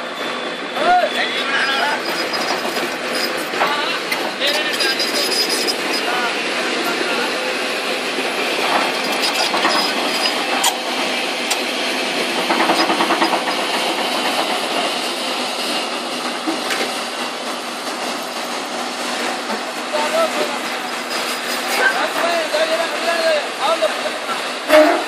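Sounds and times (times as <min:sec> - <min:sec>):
tractor engine working hard: 0:00.0 - 0:24.8.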